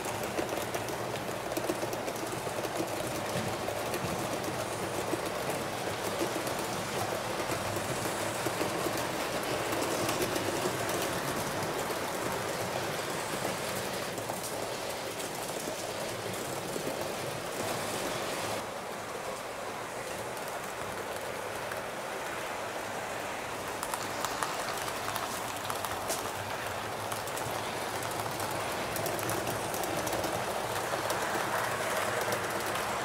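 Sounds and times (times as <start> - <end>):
model train wheels rattling: 0.0 - 18.6, 23.5 - 33.0.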